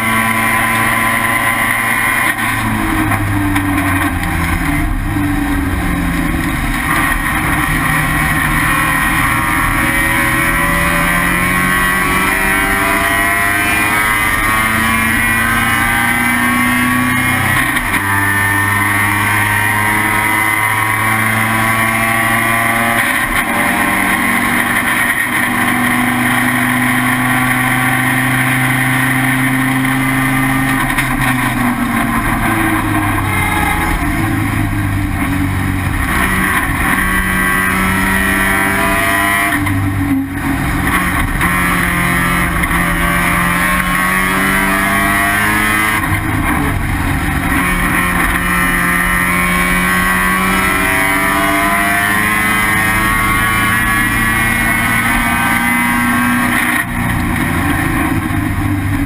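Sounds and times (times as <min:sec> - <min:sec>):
race car rotary engine: 0:00.0 - 0:59.0.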